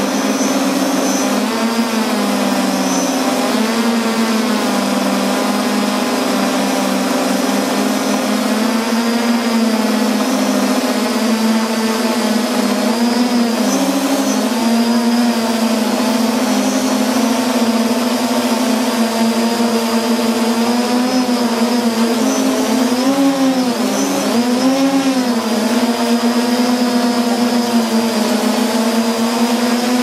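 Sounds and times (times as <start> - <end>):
drone propellers humming: 0.0 - 30.0.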